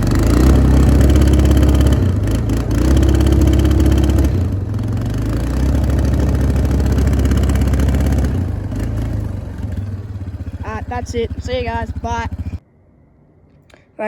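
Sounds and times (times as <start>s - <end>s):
quad bike engine revving: 0.0s - 12.6s.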